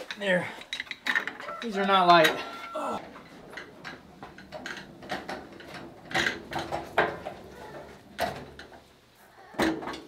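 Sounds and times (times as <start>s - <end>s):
machine stand rattling on concrete: 0.0s - 8.9s.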